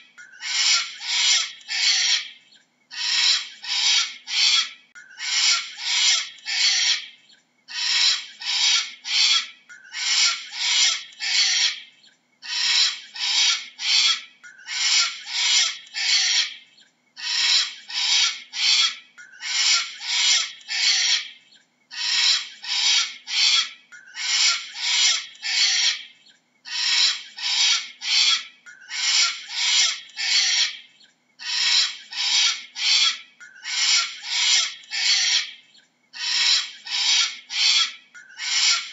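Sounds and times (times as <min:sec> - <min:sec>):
cockatoo screeching: 0:00.4 - 0:07.1, 0:07.7 - 0:16.6, 0:17.2 - 0:26.1, 0:26.7 - 0:30.8, 0:31.4 - 0:35.6, 0:36.2 - 0:38.9.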